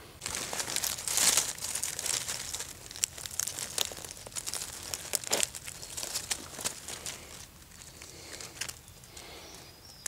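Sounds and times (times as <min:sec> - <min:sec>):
dry leaves and twigs rustling: 0:00.2 - 0:10.0.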